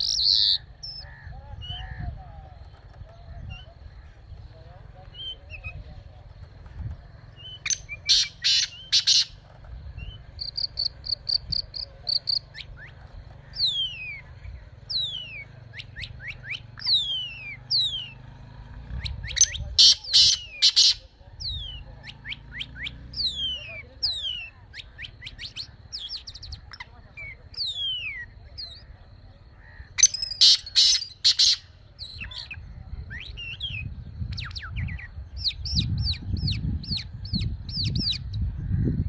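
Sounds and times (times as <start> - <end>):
songbird calling and singing: 0.0 - 39.0.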